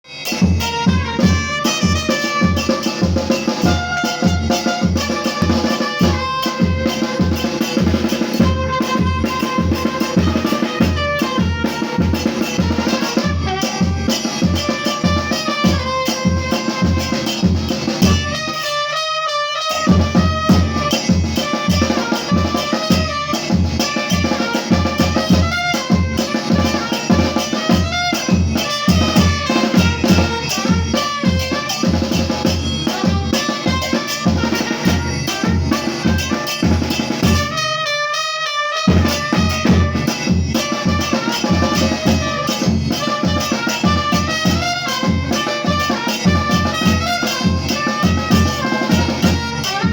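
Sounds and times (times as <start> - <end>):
steady drum beat: 0.0 - 38.1, 38.8 - 49.9.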